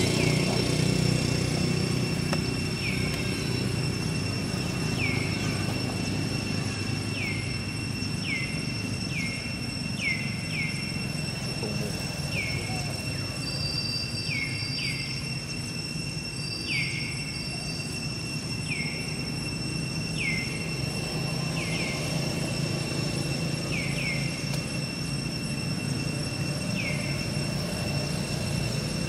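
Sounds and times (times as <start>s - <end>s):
high-pitched drone: 0.0s - 29.0s.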